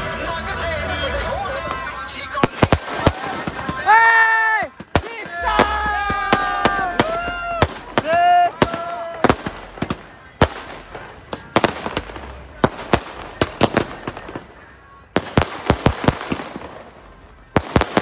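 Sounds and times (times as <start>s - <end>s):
fireworks crackle: 0.0s - 18.0s
fireworks cracks and bangs: 1.2s - 18.0s.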